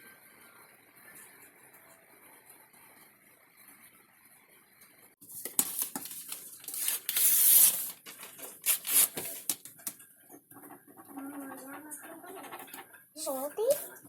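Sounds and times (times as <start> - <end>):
crackling rustle and clicks: 1.0 - 13.1.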